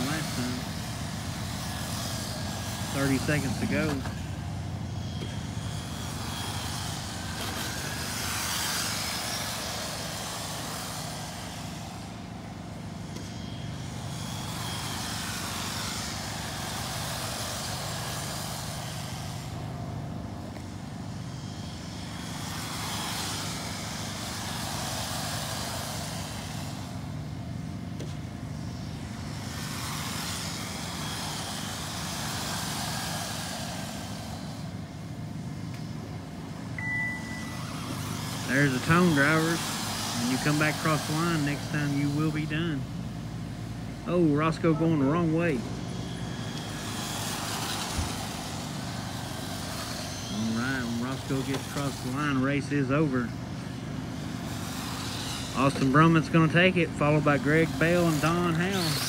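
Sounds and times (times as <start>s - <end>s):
rc truck motor whine: 0.0s - 59.0s
steady low hum: 0.0s - 59.0s.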